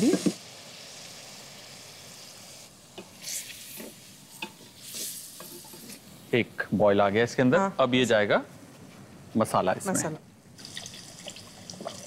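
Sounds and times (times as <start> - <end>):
vegetables sizzling in a pot: 0.0 - 8.3, 10.6 - 12.0.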